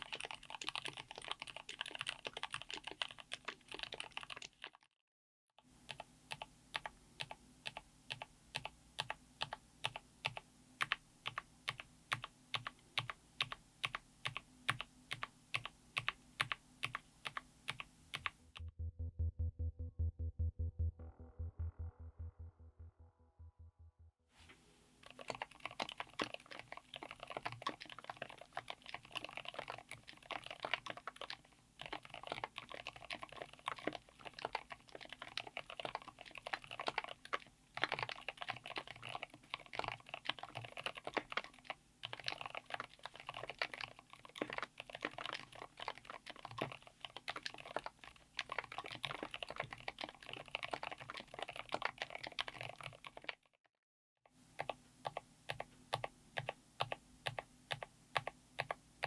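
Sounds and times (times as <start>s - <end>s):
fast typing on mechanical keyboard: 0.0s - 4.9s, 5.8s - 18.4s, 25.0s - 53.5s, 54.5s - 58.8s.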